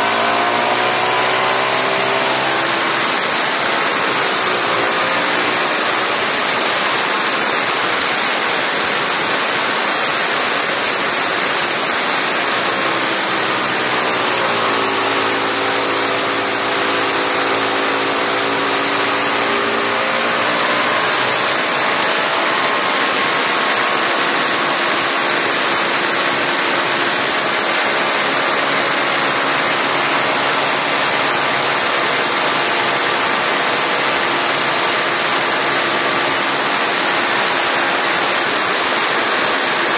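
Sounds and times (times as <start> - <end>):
lawnmower engine high-revving howl: 0.0 - 39.9.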